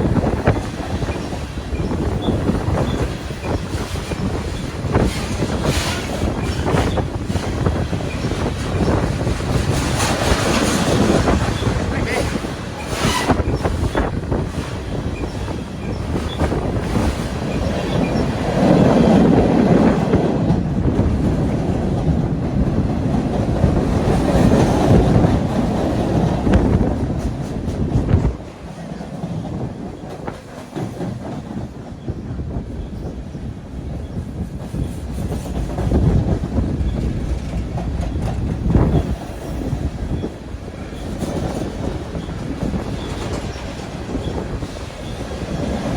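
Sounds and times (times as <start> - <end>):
train rumble: 0.0 - 45.9
train wheels clicking over rail joints: 0.0 - 45.9.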